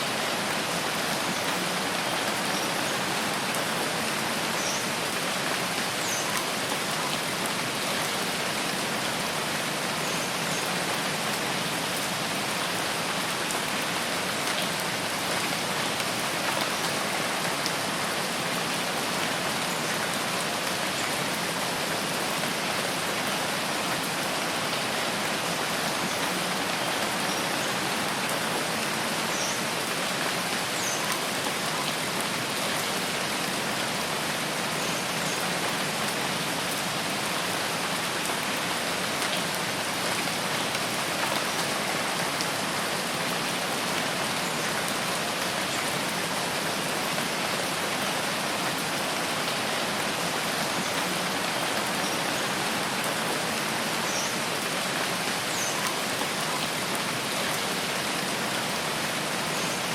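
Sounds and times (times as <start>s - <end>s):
rain falling through foliage: 0.0s - 59.9s.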